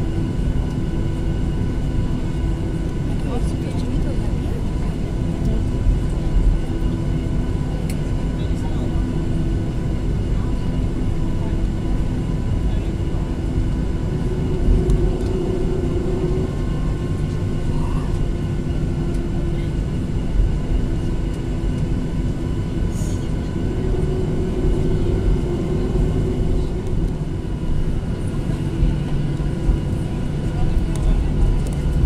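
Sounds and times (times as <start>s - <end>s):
airplane cabin engine rumble: 0.0s - 32.0s.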